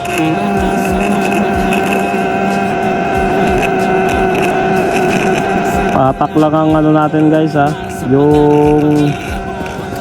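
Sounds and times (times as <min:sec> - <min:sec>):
music with sustained notes: 0:00.0 - 0:10.0
noisy haze: 0:00.0 - 0:10.0.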